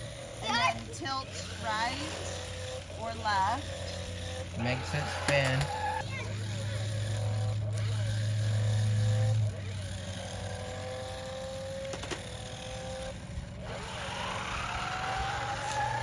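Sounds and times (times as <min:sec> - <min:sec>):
toy car electric motors whining: 0:00.0 - 0:16.0.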